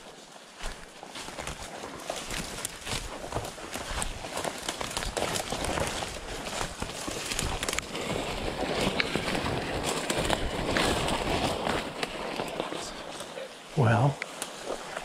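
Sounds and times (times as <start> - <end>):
footsteps through undergrowth: 0.0 - 15.0
twigs crackling: 0.0 - 15.0.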